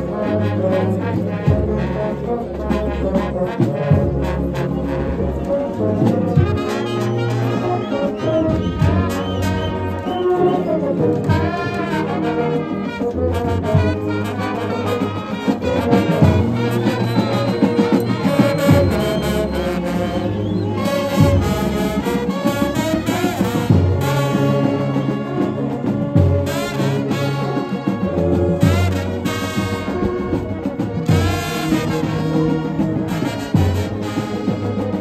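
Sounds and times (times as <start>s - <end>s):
brass band playing lively tune: 0.0s - 35.0s.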